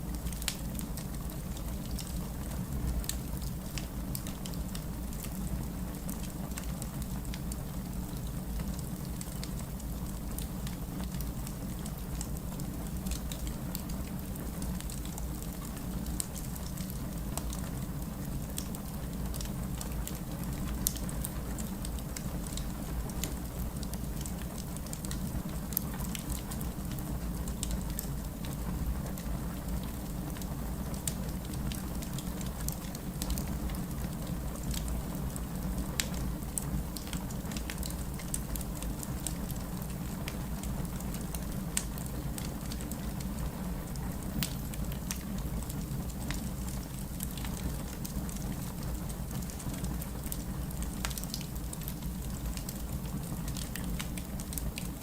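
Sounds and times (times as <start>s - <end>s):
wood fire crackling: 0.0s - 55.0s
rain falling: 0.1s - 55.0s.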